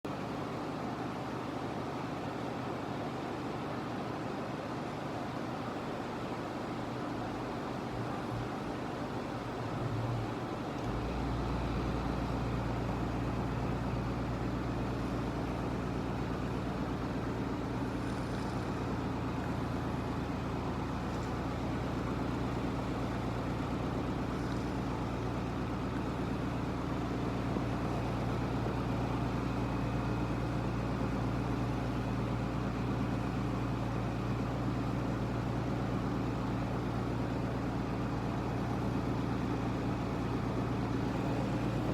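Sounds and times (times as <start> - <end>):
low machine hum: 0.1 - 41.9.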